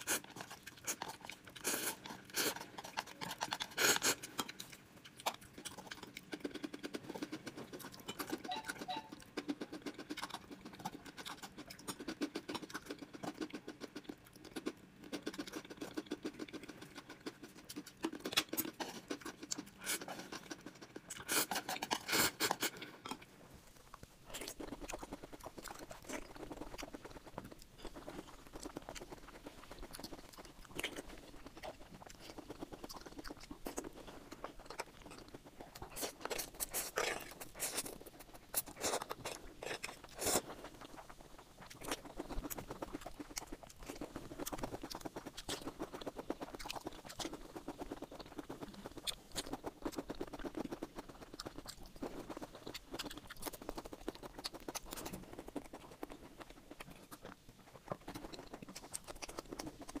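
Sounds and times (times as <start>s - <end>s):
chewing and crunching food: 0.0s - 60.0s.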